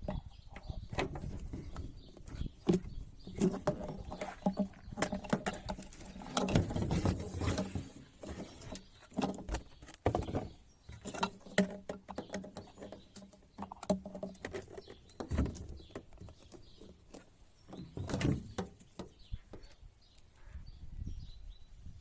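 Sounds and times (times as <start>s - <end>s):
objects being handled: 0.0s - 19.8s.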